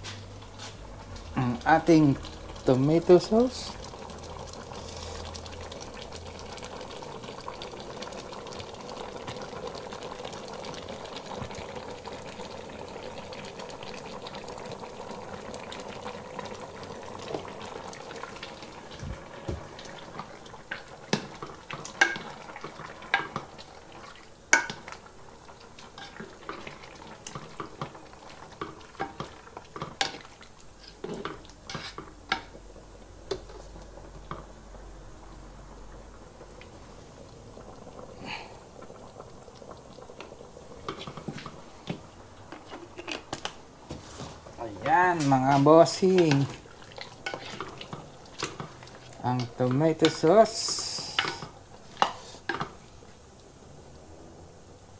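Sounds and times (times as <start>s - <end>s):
pot boiling: 0.0s - 54.9s.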